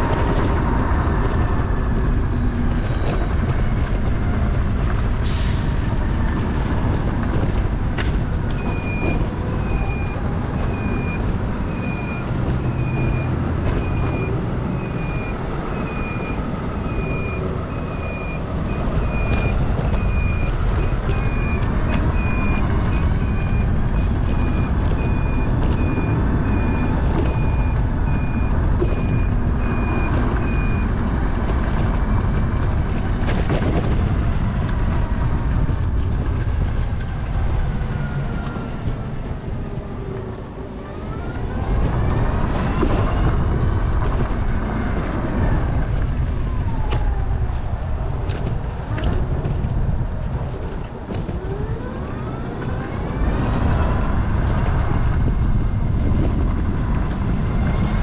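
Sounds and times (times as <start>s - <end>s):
engine and road rumble: 0.0s - 58.0s.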